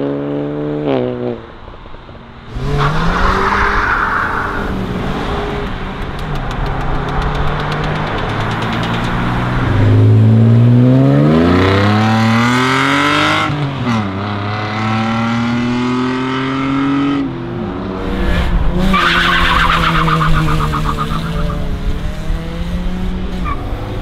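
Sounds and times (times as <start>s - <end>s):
car accelerating hard: 2.5s - 24.0s.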